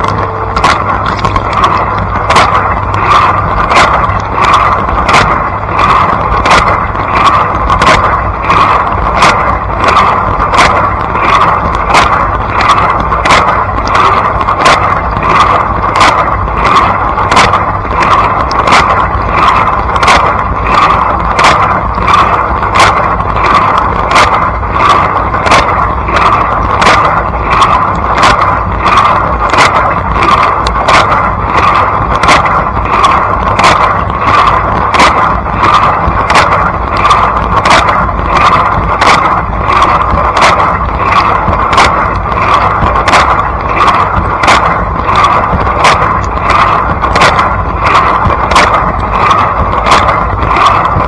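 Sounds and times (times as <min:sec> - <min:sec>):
dishwasher low hum: 0:00.0 - 0:51.0.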